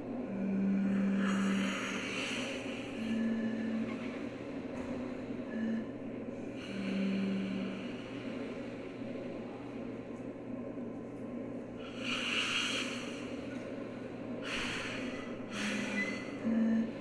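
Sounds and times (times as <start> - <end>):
low steady drone: 0.0 - 17.0.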